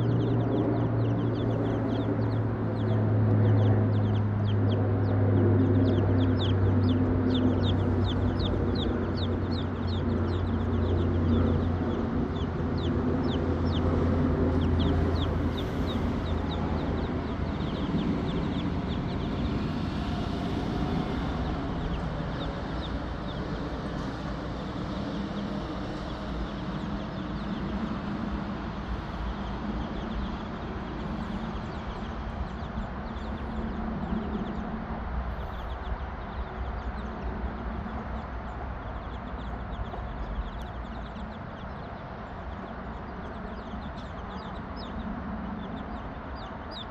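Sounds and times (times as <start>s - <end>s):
low steady hum: 0.0s - 46.7s.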